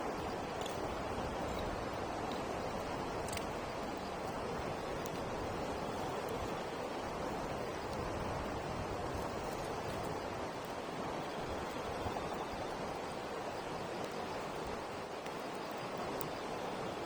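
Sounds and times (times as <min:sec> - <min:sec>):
campfire crackles: 0:00.0 - 0:17.0.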